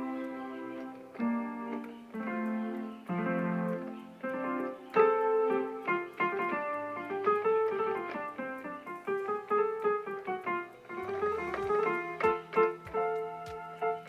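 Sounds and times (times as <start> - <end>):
keyboard piano chords and notes: 0.0 - 14.0.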